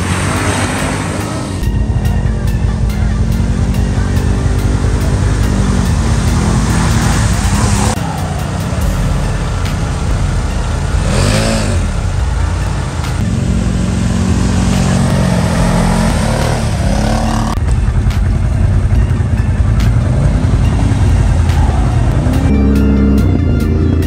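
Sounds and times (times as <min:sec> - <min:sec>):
atv engines revving: 0:00.0 - 0:24.0.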